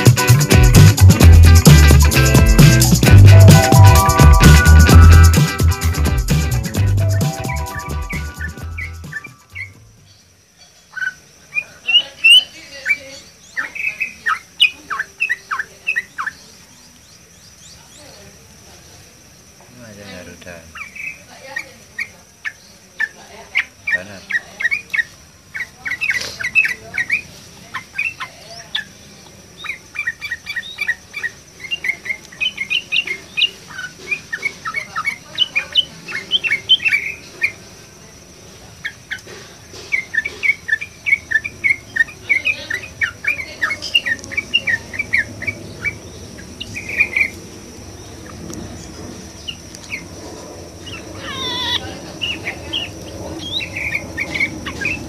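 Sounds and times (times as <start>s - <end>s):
bird singing rapid chirps: 0.0s - 18.2s, 20.0s - 37.7s, 38.8s - 55.0s.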